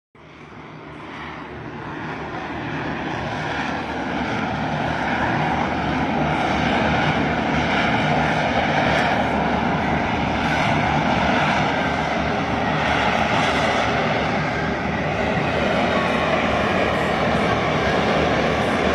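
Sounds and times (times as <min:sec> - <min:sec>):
jet engine roar: 0:00.2 - 0:18.9.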